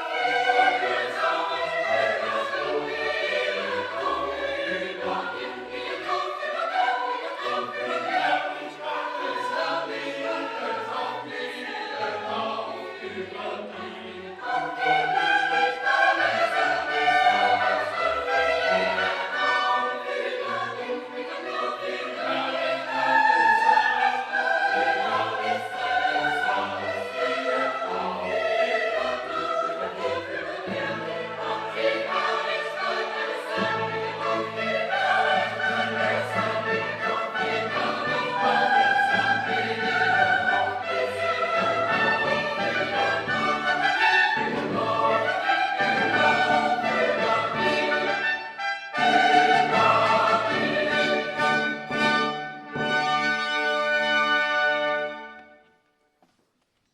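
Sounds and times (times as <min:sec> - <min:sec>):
choir singing: 0:00.0 - 0:55.6
instrumental accompaniment: 0:00.0 - 0:56.0.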